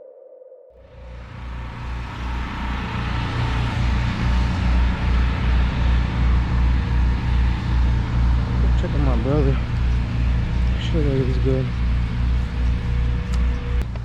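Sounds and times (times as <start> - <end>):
engine running with low throb: 0.8 - 14.0.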